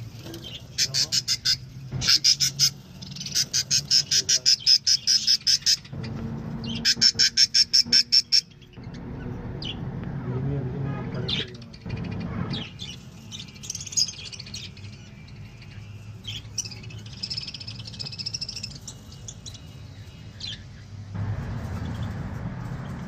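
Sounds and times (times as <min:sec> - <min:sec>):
chicks chirping: 0:00.0 - 0:10.4, 0:11.0 - 0:23.0.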